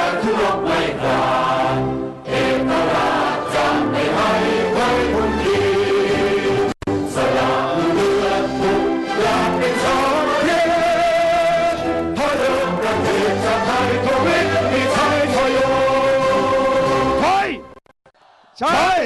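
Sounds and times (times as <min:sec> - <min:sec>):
choir singing held notes: 0:00.0 - 0:17.2.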